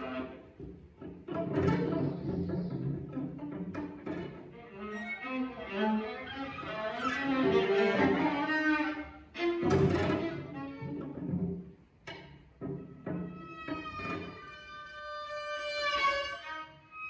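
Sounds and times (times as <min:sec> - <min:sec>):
viola and cello bowed notes: 0:00.0 - 0:17.0.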